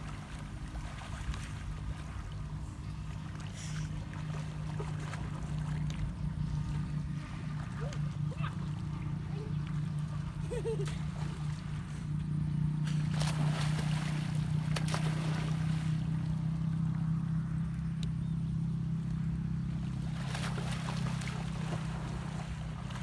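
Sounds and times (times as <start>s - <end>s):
water splashing: 0.0s - 17.1s, 19.7s - 23.0s
steady low hum: 0.0s - 23.0s.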